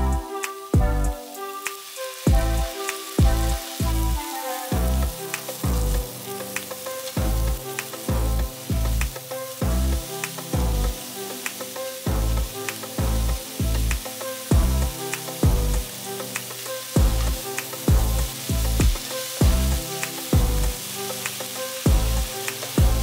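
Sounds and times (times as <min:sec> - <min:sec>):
background music with drum beat: 0:00.0 - 0:23.0
vegetables sizzling in a pan: 0:00.0 - 0:23.0.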